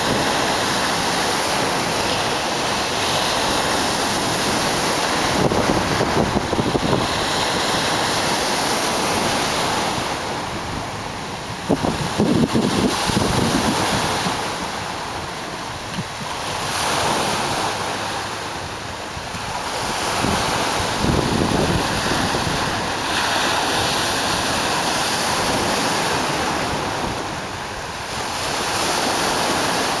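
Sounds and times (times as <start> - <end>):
wind buffeting microphone: 0.0 - 17.8, 18.6 - 30.0
waves washing over rocks: 0.0 - 30.0.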